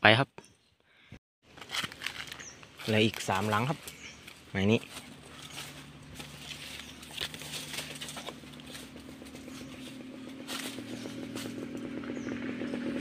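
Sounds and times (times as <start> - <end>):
footsteps rustling through dry leaves: 1.5 - 12.1
small engine droning: 1.5 - 13.0.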